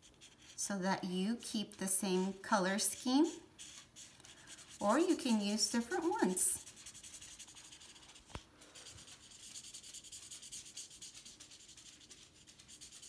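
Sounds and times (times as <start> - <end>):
marker rubbing on paper: 0.0 - 0.6, 1.8 - 13.0.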